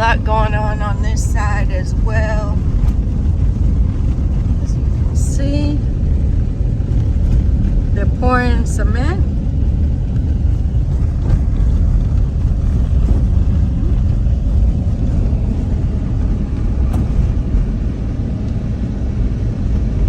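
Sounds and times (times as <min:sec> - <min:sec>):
car driving: 0:00.0 - 0:20.0.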